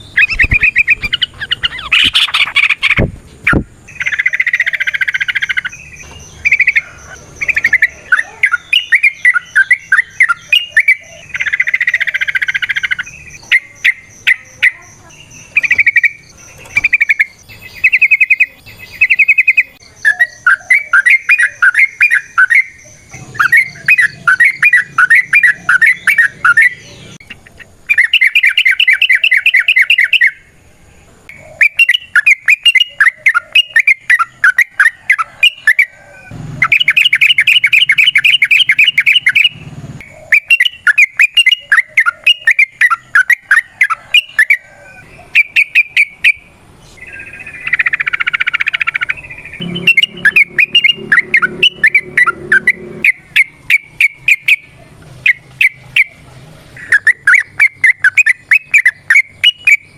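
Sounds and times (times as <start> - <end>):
bird singing chattering notes: 0.0 - 30.6, 31.2 - 59.9.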